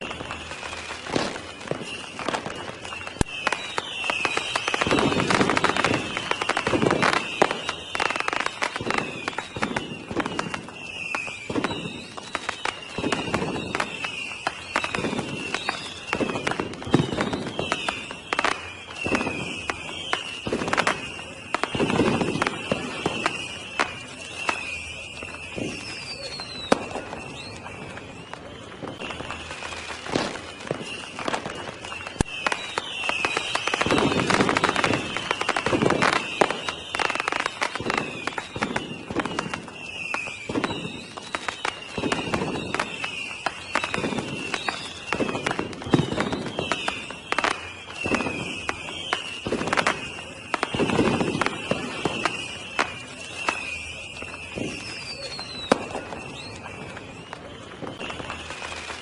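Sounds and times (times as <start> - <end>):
deep fireworks booms: 0.0 - 59.0
fireworks bangs and cracks: 0.0 - 59.0
high whistling tone: 0.0 - 59.0.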